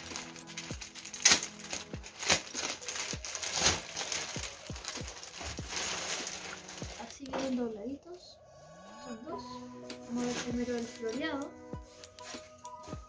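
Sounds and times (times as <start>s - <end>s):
packaging rustling and crinkling: 0.0s - 7.9s, 10.0s - 13.0s
soft background music: 0.0s - 13.0s.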